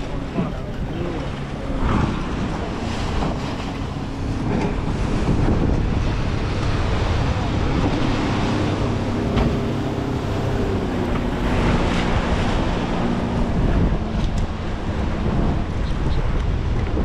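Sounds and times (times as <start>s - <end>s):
outboard motor passing: 0.0s - 17.0s
surf breaking: 0.0s - 17.0s
wind buffeting microphone: 0.0s - 17.0s.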